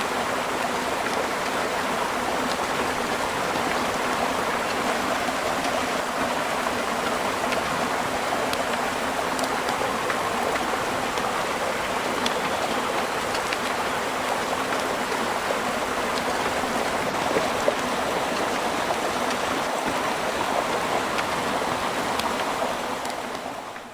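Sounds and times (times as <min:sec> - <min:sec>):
sharp ticks of raindrops: 0:00.0 - 0:23.9
steady rain hiss: 0:00.0 - 0:23.9.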